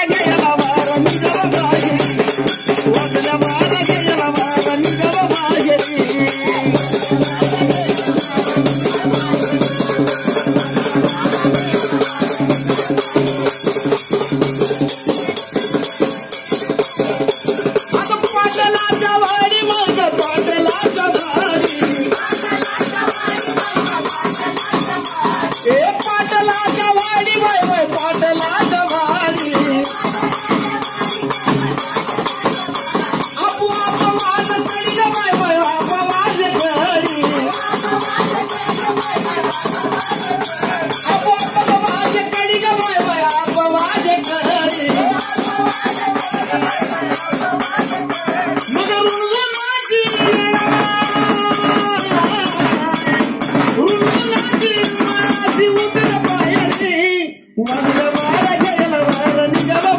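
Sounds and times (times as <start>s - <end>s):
jingling hand percussion: 0.0s - 59.9s
person singing devotional song: 0.0s - 59.9s.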